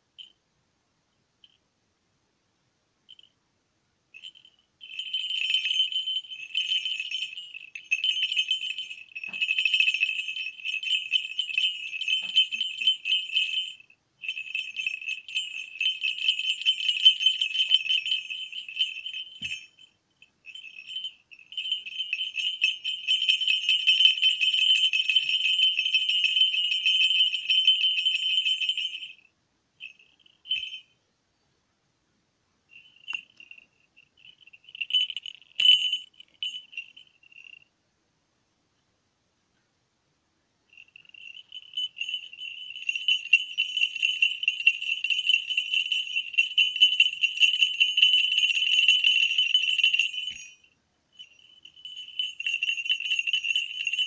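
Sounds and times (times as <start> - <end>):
small bells jingling: 0.1 - 0.4, 3.1 - 3.4, 4.1 - 31.1, 32.7 - 37.7, 40.7 - 54.0.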